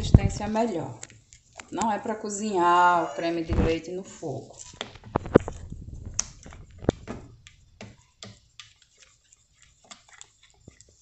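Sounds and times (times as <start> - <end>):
wooden spoon scraping metal pot: 0.0 - 11.0.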